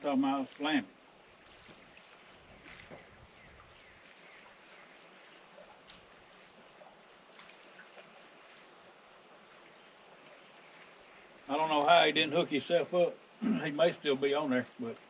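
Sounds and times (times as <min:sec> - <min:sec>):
soft even hiss: 0:00.0 - 0:15.0.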